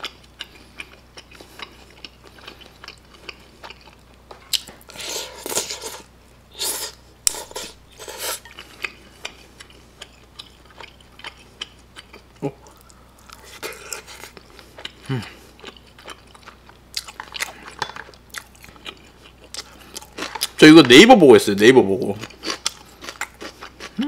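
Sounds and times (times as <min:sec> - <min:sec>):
slurping and eating noises: 0:00.0 - 0:20.6.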